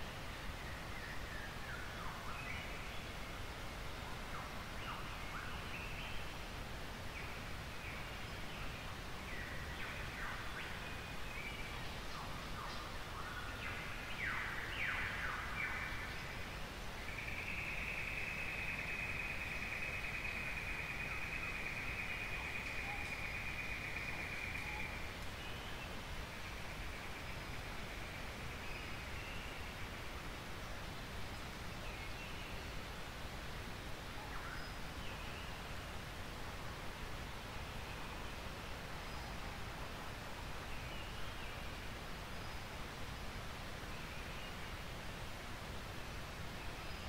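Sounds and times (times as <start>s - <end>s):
constant low hiss: 0.0s - 47.0s.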